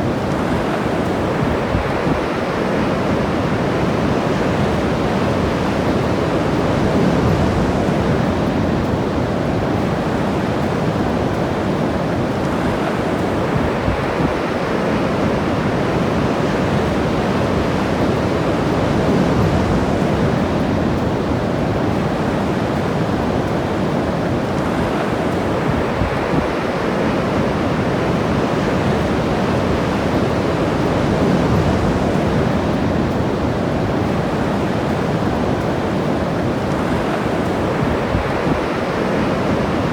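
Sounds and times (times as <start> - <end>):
ocean waves breaking: 0.0 - 39.9
wind buffeting microphone: 0.0 - 39.9.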